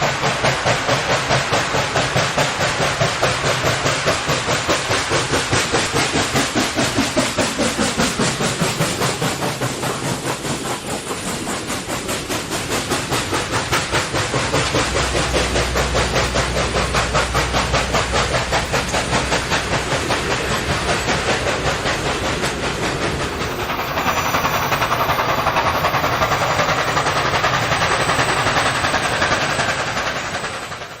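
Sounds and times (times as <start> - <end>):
steam hiss: 0.0 - 31.0
steam locomotive chuffing: 0.0 - 31.0.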